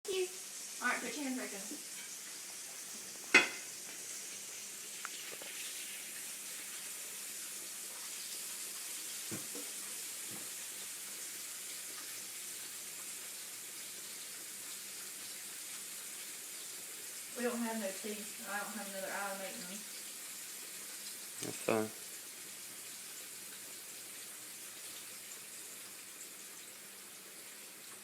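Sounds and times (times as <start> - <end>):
food sizzling in hot oil: 0.1 - 28.0.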